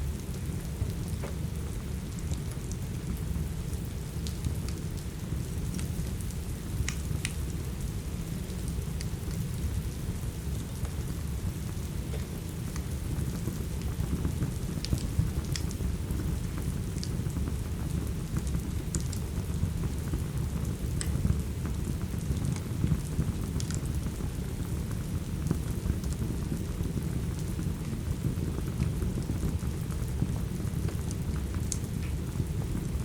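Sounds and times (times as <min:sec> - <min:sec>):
steady rain: 0:00.0 - 0:33.0
wood fire crackling: 0:00.1 - 0:33.0.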